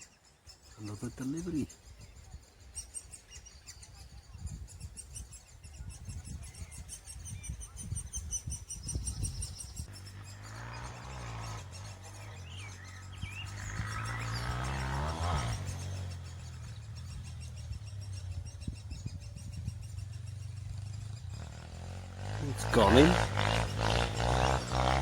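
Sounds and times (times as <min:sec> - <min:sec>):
birds chirping: 0:00.0 - 0:25.0
wind rumble on microphone: 0:01.6 - 0:21.8.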